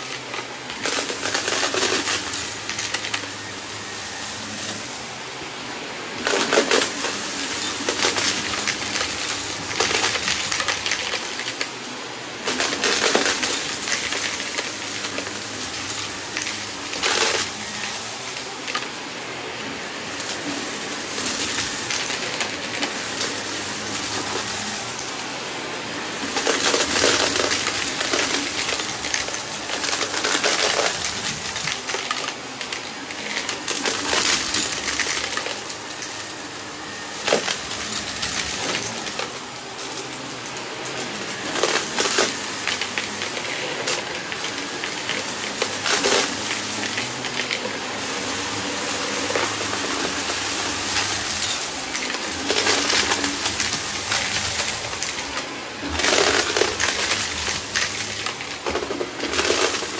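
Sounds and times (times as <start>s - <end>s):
upright vacuum running: 0.0s - 59.9s
debris rattling in nozzle: 0.1s - 5.2s, 6.2s - 19.2s, 20.0s - 59.9s.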